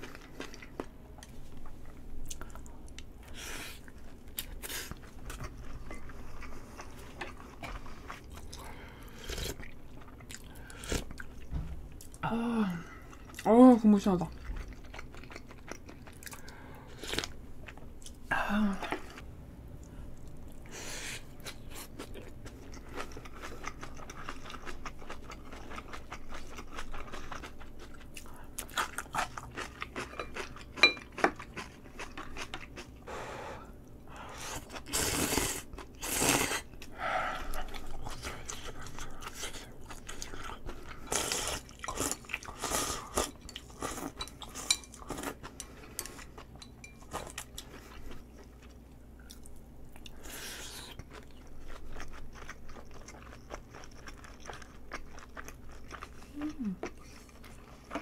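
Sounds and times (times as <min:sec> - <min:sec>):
person chewing food: 0:00.0 - 0:12.2, 0:12.9 - 0:13.5, 0:14.3 - 0:58.0.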